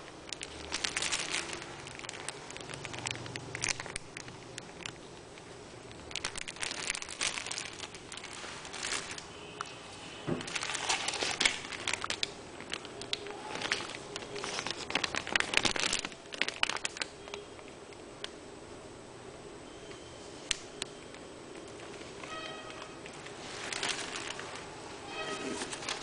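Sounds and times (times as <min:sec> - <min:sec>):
plastic bags crinkling: 0:00.0 - 0:18.0, 0:21.6 - 0:26.0.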